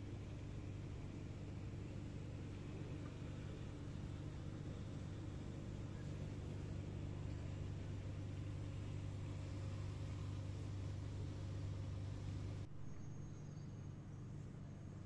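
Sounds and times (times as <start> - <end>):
train equipment low hum: 0.0 - 15.0.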